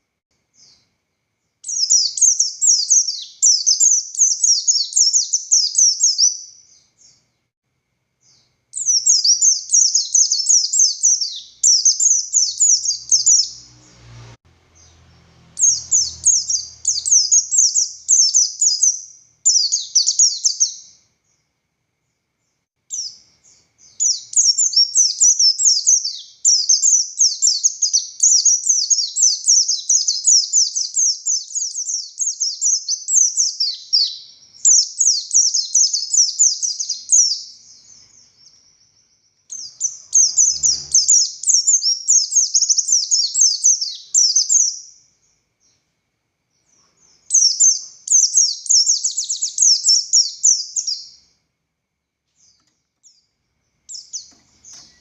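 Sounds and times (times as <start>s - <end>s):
bird twittering song: 0.0s - 7.5s, 8.2s - 45.8s, 46.5s - 51.4s, 52.3s - 55.0s.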